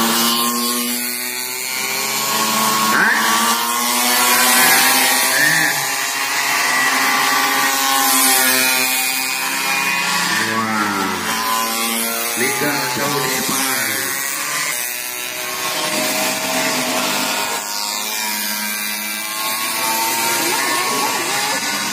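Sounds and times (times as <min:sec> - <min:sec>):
pocket bike engines buzzing: 0:00.0 - 0:21.9.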